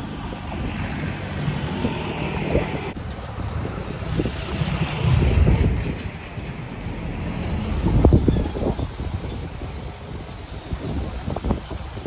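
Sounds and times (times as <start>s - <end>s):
road traffic rumbling: 0.0s - 12.0s
wind on microphone: 0.0s - 12.0s.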